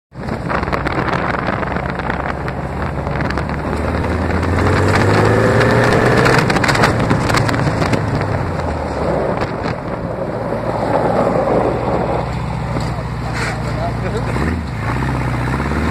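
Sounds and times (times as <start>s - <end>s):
wind buffeting microphone: 0.1s - 13.2s
gravel crunching under tyres: 0.1s - 15.9s
go-kart engine running: 0.2s - 15.9s.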